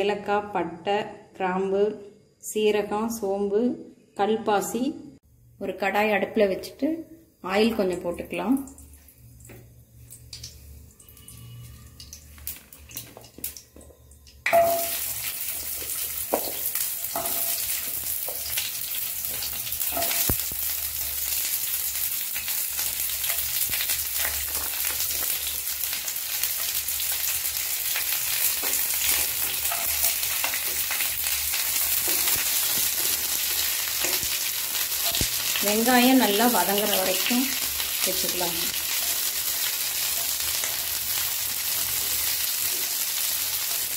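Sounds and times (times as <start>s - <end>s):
vegetables sizzling in hot oil: 6.0s - 43.9s.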